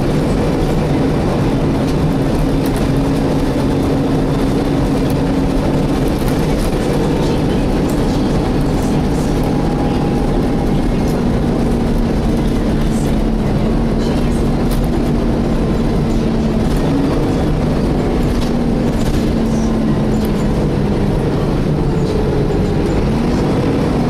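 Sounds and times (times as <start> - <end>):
bus engine fan drone: 0.0 - 24.0
faint rattles from bus body: 0.0 - 24.0.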